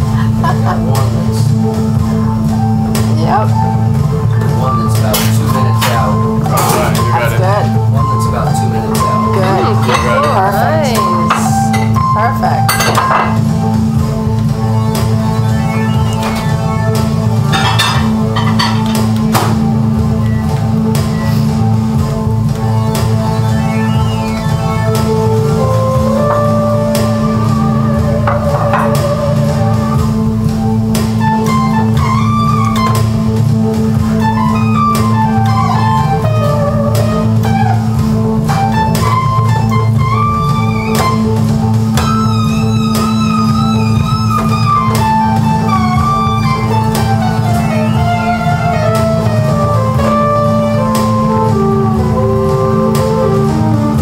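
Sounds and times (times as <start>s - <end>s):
drum beat: 0.0s - 54.0s
electronic keyboard melody: 0.0s - 54.0s
sustained low synth note: 0.0s - 54.0s.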